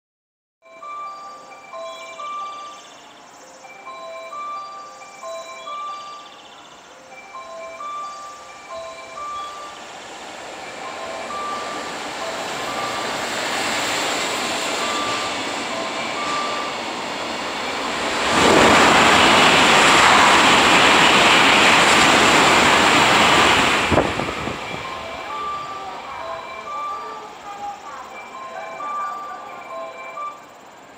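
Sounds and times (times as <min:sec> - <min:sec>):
freight train wagons rolling past: 0:00.8 - 0:30.9.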